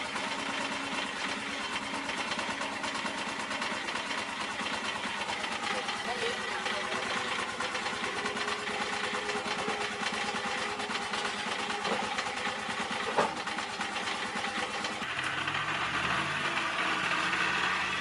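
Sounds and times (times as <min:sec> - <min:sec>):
engine mechanical clatter: 0:00.0 - 0:18.0.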